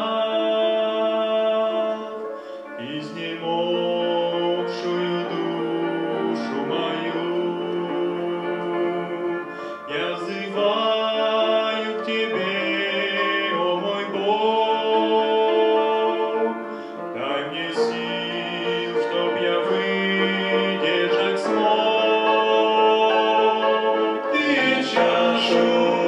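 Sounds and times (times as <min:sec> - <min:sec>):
male vocal quartet singing hymn: 0:00.0 - 0:26.0.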